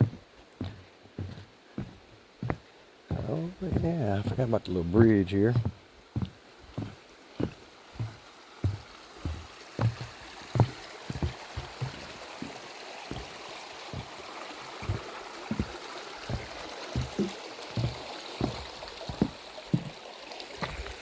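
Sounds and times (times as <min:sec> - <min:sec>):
creek running: 0:00.0 - 0:21.0
footsteps on footbridge: 0:00.0 - 0:21.0.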